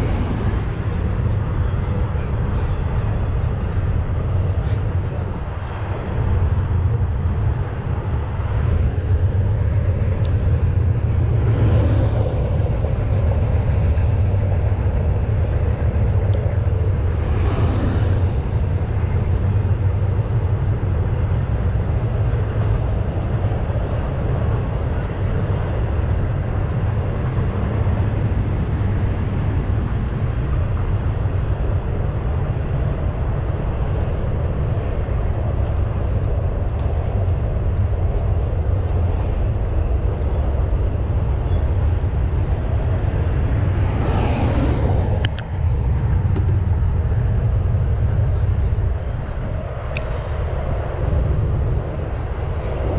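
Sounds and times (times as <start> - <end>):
low outdoor rumble: 0.0 - 52.9.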